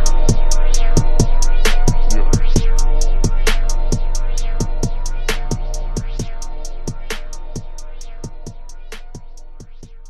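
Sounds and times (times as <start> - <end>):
deep sub-bass drone: 0.0 - 10.0
hi-hat ticks: 0.0 - 10.0
sustained synth notes: 0.0 - 10.0.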